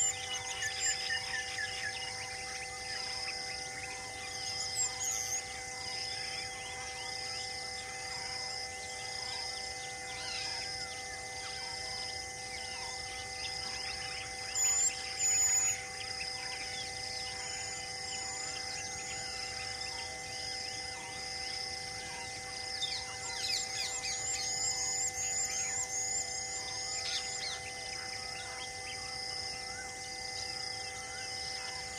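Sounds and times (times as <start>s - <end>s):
insect drone: 0.0s - 31.9s.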